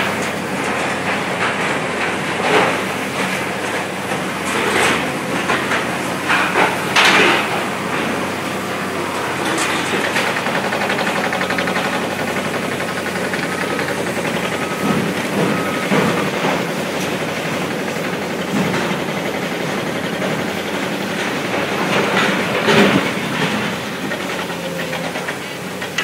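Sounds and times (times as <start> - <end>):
concrete crushing clatter: 0.0 - 26.0
excavator engine running: 0.0 - 26.0.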